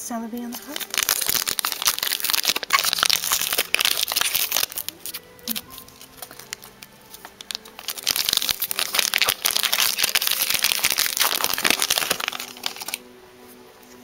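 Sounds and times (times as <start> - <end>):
foil wrapper crinkling: 0.4 - 13.1.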